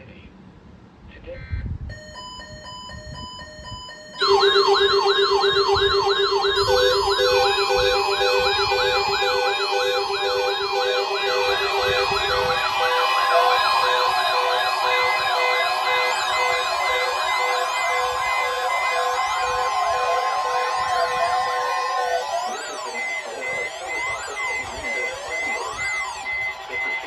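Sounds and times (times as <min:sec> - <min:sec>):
steady higher alarm tone: 0:02.0 - 0:27.0
beeping tone: 0:04.0 - 0:27.0
fast warbling siren tone: 0:04.2 - 0:27.0.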